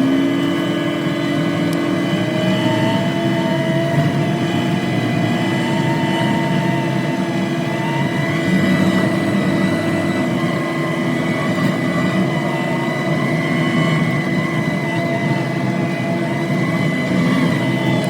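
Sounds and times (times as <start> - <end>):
heavy machine engine running: 0.0 - 18.0
machine whine: 0.0 - 18.0.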